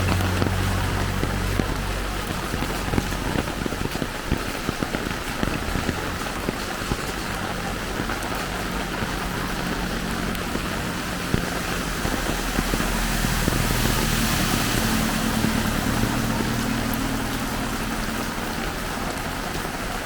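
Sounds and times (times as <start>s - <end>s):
faint low engine hum: 0.0s - 20.0s
heavy rain falling: 0.0s - 20.0s.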